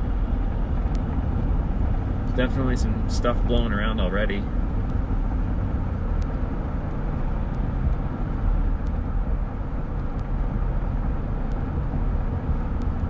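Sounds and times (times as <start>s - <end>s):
motorcycle road noise: 0.0s - 13.0s.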